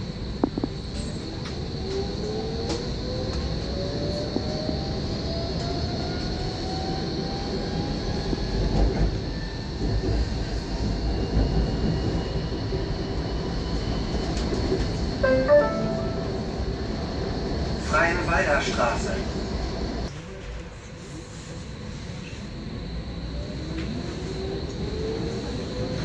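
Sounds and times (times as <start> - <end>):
tram motor whine: 0.0 - 26.0.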